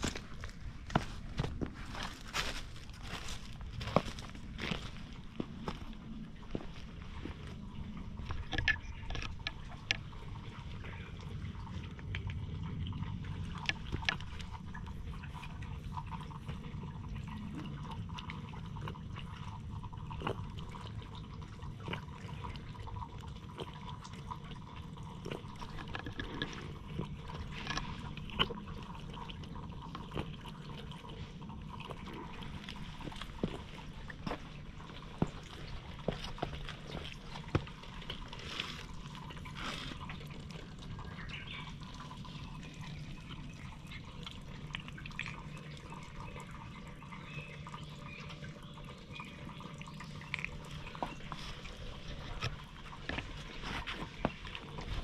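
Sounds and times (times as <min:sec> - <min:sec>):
cat lapping water: 0:00.0 - 0:55.0.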